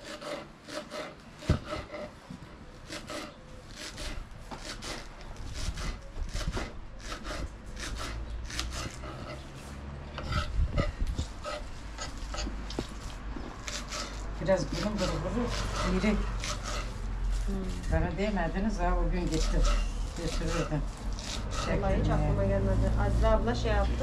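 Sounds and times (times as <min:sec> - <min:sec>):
rasping scraping strokes: 0:00.0 - 0:24.0.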